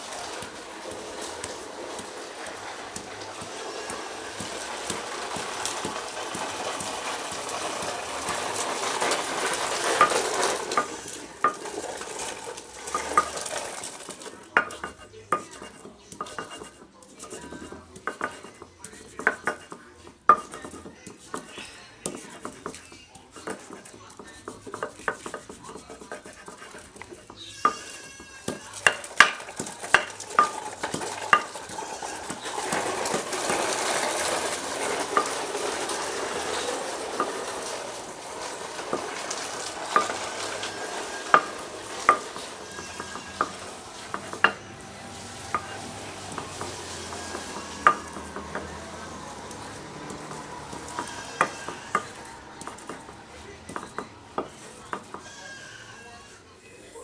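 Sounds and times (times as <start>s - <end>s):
stone scraping: 0.0s - 56.4s
stone knocking on stone: 0.2s - 37.8s, 38.5s - 55.4s.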